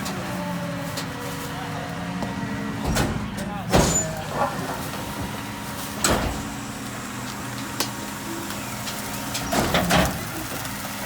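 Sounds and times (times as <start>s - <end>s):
garbage truck engine running: 0.0s - 11.0s.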